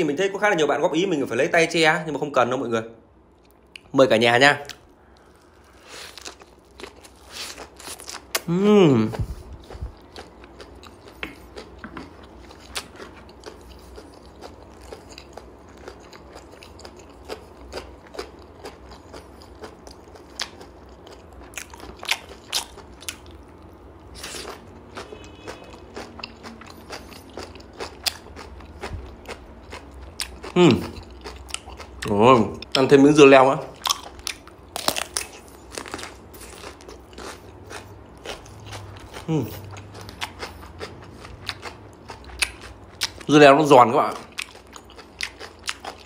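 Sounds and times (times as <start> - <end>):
wet chewing and crunching: 4.6 - 32.9, 33.6 - 46.0.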